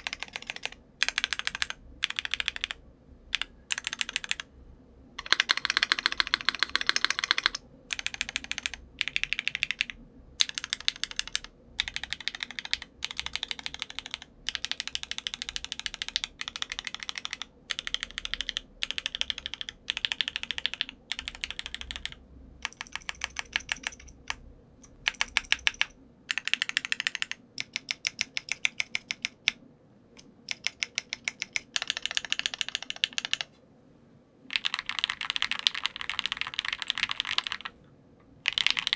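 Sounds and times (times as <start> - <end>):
typing on mechanical keyboard: 0.0 - 4.5, 5.2 - 29.6, 30.2 - 33.5, 34.5 - 37.7, 38.4 - 38.9.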